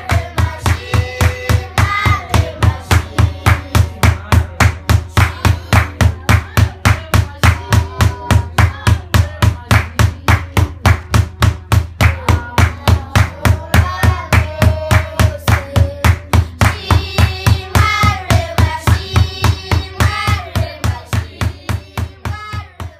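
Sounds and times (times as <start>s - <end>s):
children singing: 0.0s - 9.6s, 12.0s - 22.9s
large drum beaten in quick rhythm: 0.0s - 22.9s.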